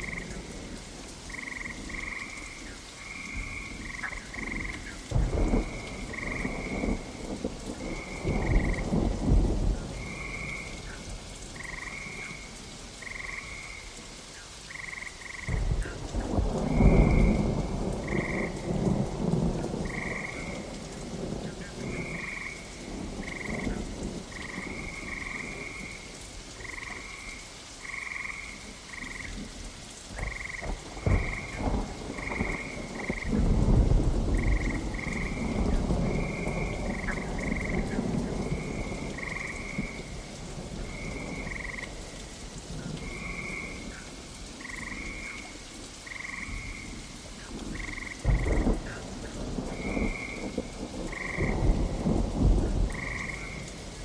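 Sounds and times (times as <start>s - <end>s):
frogs croaking: 0.0s - 54.0s
steady rain: 0.0s - 54.0s
thunder rumbling: 3.2s - 12.4s, 15.4s - 27.2s, 30.1s - 45.6s, 46.4s - 54.0s.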